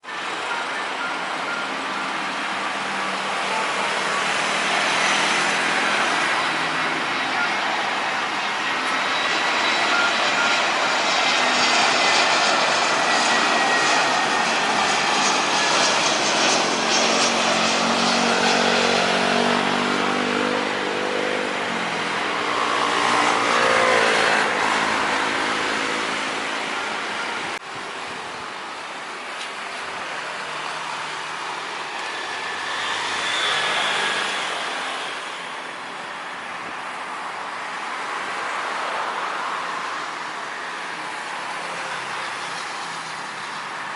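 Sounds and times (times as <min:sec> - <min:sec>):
jet engines roaring with high whine: 0:00.0 - 0:43.9.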